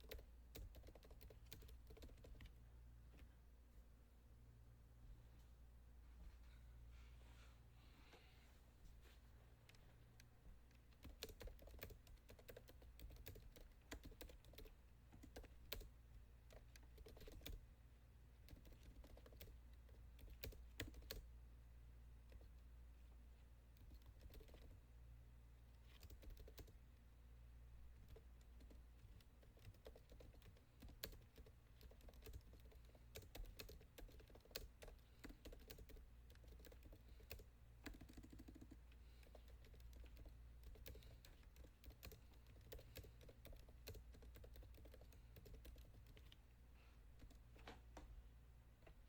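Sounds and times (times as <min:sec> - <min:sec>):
low steady hum: 0:00.0 - 0:49.0.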